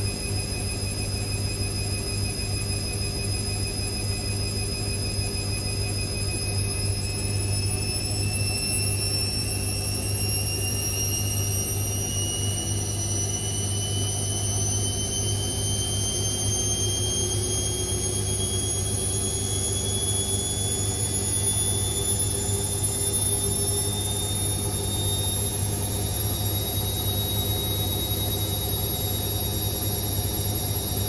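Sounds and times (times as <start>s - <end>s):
washing machine motor whining: 0.0s - 31.0s.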